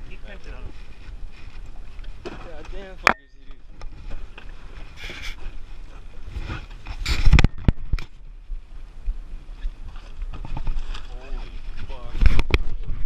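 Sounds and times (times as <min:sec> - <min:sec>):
wind and clothing rubbing microphone: 0:00.0 - 0:13.0.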